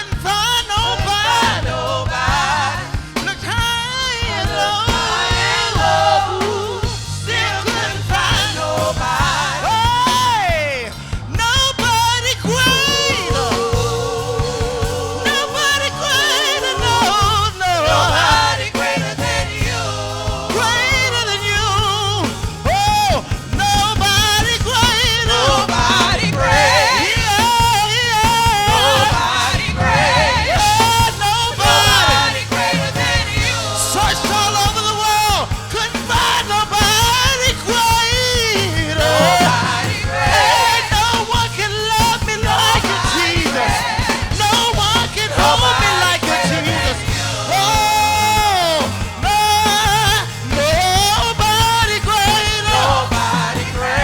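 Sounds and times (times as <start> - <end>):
band with steady bass line: 0.0 - 54.0
person singing gospel: 0.0 - 54.0.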